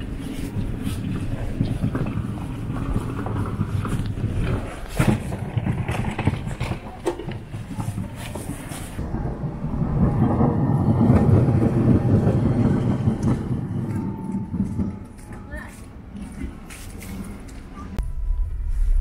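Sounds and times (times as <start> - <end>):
streetcar rumbling on rails: 0.0 - 19.0.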